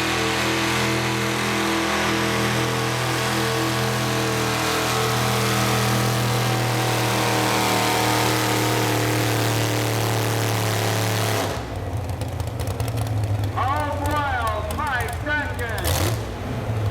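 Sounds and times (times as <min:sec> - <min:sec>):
tractor engine running hard: 0:00.0 - 0:16.9.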